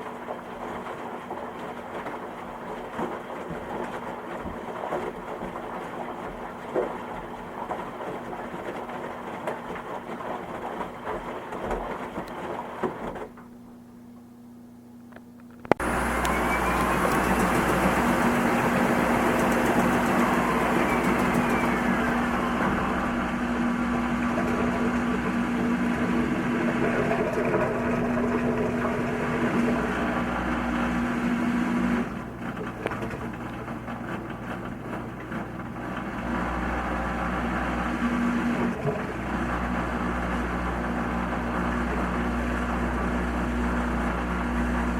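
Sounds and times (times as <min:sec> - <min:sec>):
washing machine running: 0:00.0 - 0:44.9
washing machine whine: 0:00.0 - 0:44.9.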